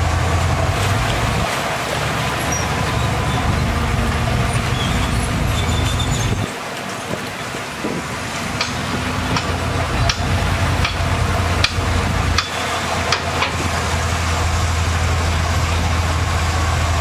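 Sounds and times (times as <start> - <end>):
heavy machine engine rumble: 0.0 - 17.0.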